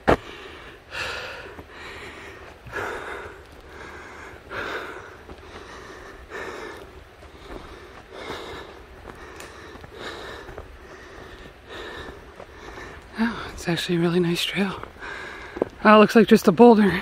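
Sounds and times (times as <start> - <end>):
person breathing heavily: 0.0 - 13.6, 14.8 - 15.8.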